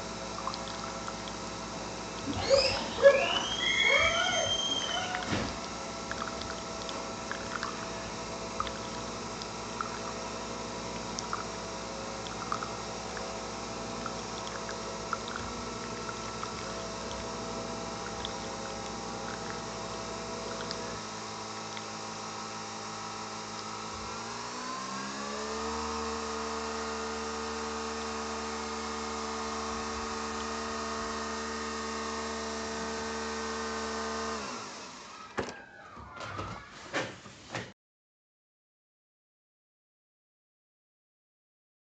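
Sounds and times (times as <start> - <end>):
capsule spinning whine: 0.0 - 36.2
coffee machine pump hum: 0.0 - 36.2.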